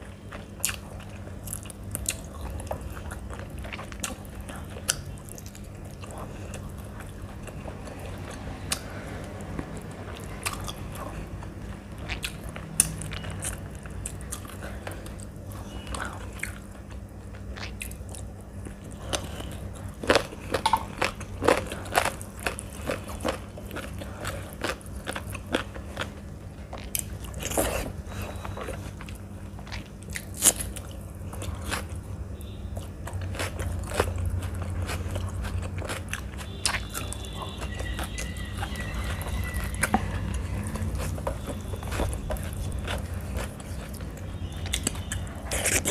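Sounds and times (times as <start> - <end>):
low steady hum: 0.0 - 45.9
chewing with wet mouth clicks: 0.1 - 45.9.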